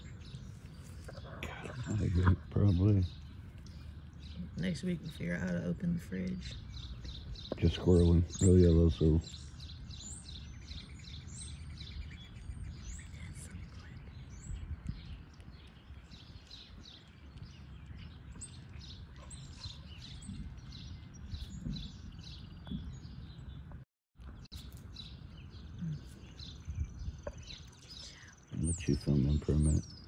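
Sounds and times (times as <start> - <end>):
low outdoor rumble: 0.0 - 30.0
small birds chirping: 0.0 - 30.0.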